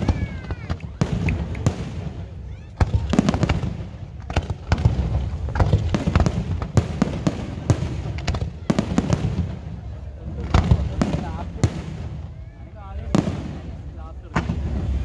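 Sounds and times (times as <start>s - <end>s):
fireworks bursting: 0.0s - 15.0s
fireworks crackle and rumble: 0.0s - 15.0s.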